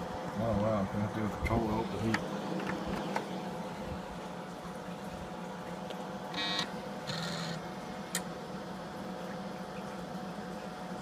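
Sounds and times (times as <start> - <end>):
computer humming: 0.0 - 11.0.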